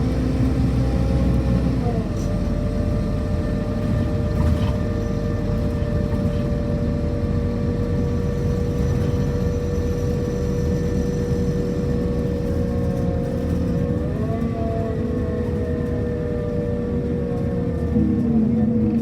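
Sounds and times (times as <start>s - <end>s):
bus engine running: 0.0s - 19.0s
high-pitched engine whine: 0.0s - 19.0s.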